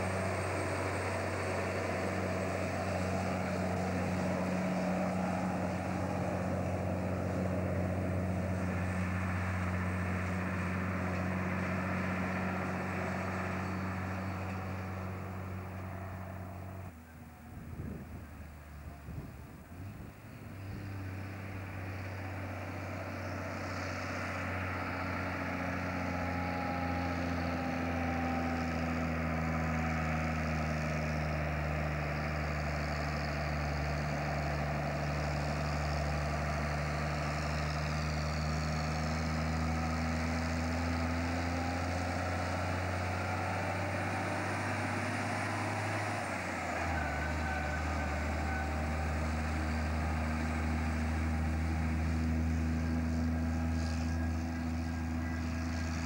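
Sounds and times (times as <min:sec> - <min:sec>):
logging truck engine passing: 0:00.0 - 0:56.0.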